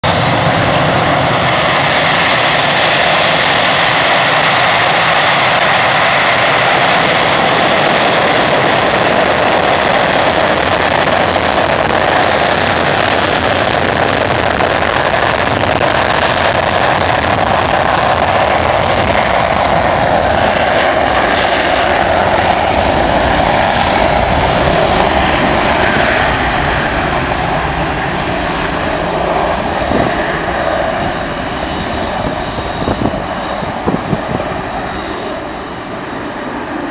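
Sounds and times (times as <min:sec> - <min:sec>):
jet engines at full power: 0:00.0 - 0:36.9.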